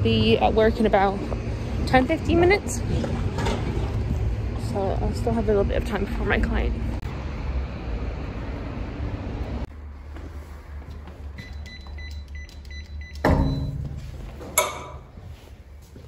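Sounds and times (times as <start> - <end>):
city street noise: 0.0 - 16.0.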